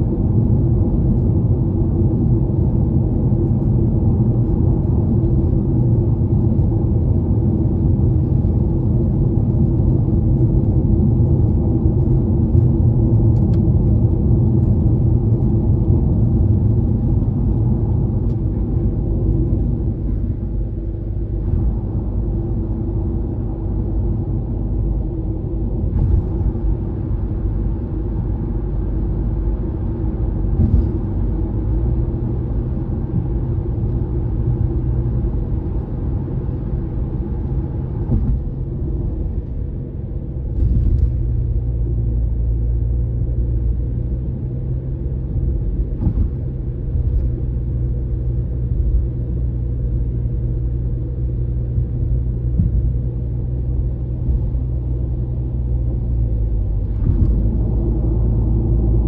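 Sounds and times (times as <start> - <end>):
tyre rumble inside car: 0.0 - 59.0.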